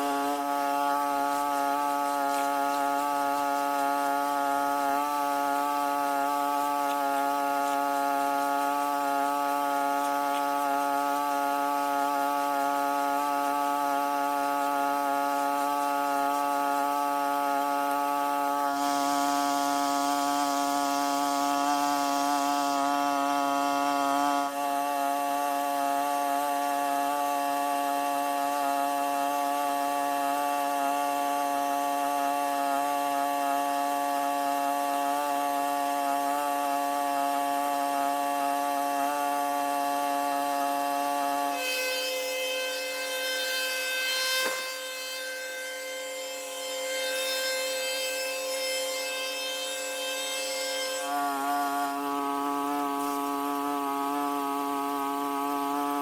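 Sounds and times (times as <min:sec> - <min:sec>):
small petrol engine running: 0:00.0 - 0:41.6, 0:51.0 - 0:56.0.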